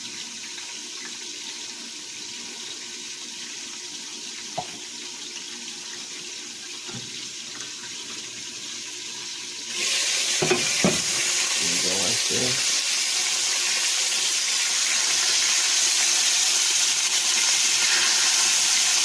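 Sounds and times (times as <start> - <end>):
liver sizzling in oil: 0.0 - 19.0.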